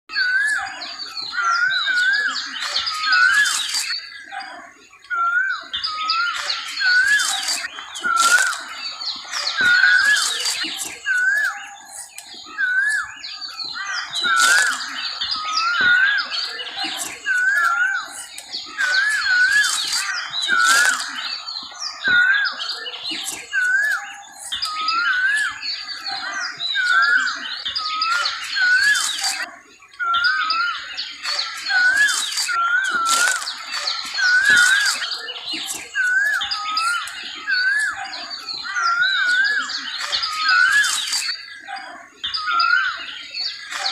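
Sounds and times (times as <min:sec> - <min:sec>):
bird whistled calls: 0:00.1 - 0:43.9
birds chirping and trilling: 0:00.1 - 0:43.9.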